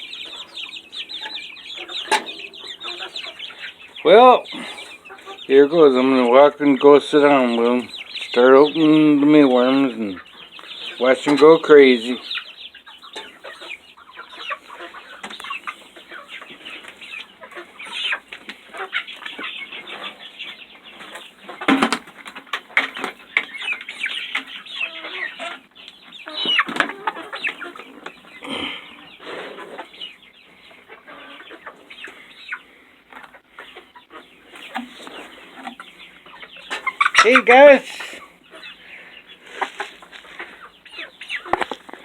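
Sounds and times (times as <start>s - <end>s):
young chickens clucking and chirping: 0.0s - 42.0s.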